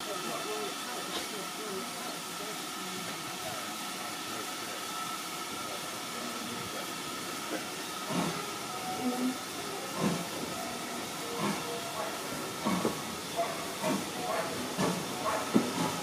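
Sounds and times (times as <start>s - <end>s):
faint voices: 0.0s - 16.0s
steam locomotive hissing: 0.0s - 16.0s.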